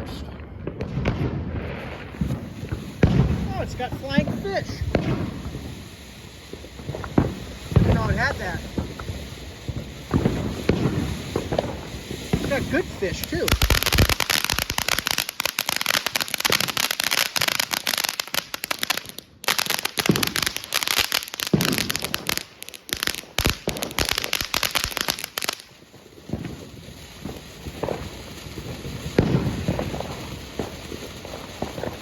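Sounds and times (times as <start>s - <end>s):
firework fountain crackling and hissing: 0.0s - 32.0s.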